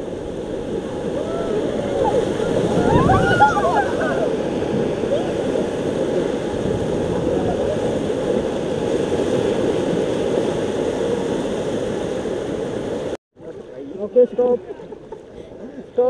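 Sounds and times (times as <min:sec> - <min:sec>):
whitewater rapids rushing: 0:00.0 - 0:13.2.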